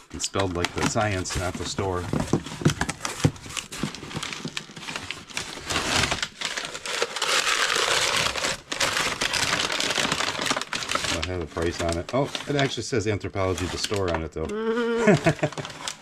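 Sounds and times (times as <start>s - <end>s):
packing paper crinkling: 0.0s - 14.4s, 15.0s - 16.0s.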